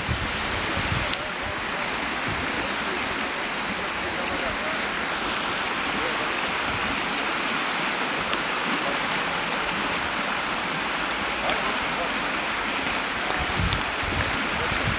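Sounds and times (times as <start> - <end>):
river rushing over stones: 0.0 - 14.9.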